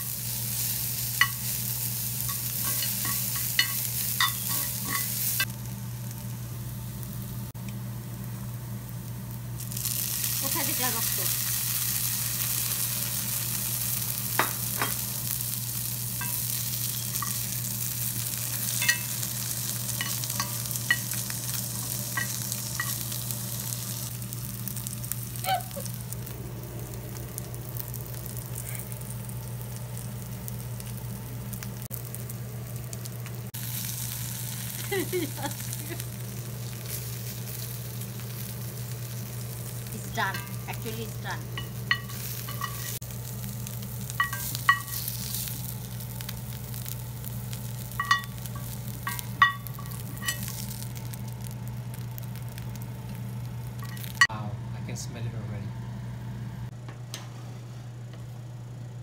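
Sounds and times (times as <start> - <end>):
food sizzling in oil: 0.0 - 54.3
steady low hum: 0.0 - 59.0.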